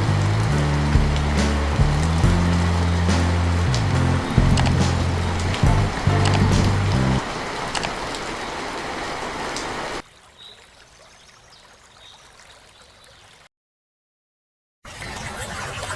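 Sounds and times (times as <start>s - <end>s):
rain: 0.0s - 13.5s
running water: 0.0s - 13.5s.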